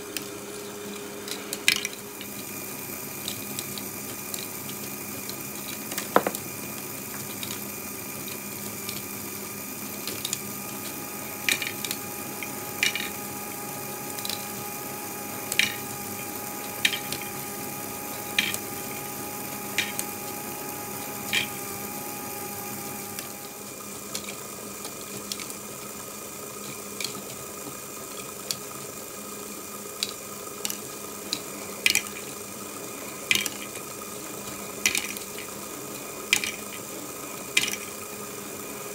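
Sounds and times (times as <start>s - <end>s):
motor and gears whirring: 0.0s - 38.9s.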